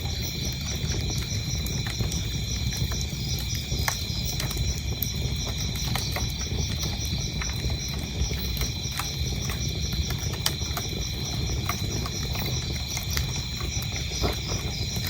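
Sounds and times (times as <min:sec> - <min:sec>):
crickets chirping: 0:00.0 - 0:15.0
wood fire crackling: 0:00.0 - 0:15.0.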